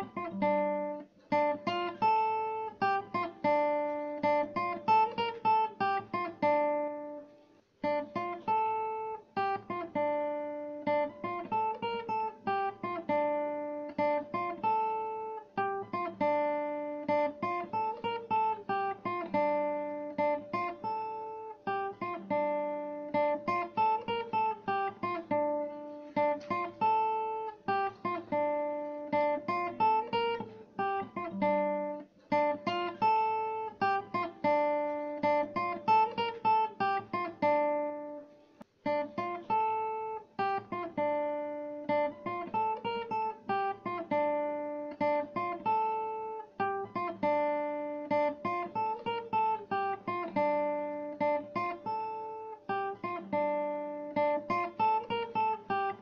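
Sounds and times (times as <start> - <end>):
fingerpicked acoustic guitar: 0.0 - 56.0.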